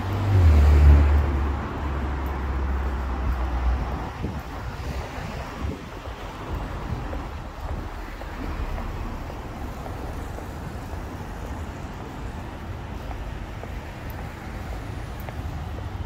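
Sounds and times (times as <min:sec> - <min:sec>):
wind buffeting microphone: 0:02.9 - 0:16.0.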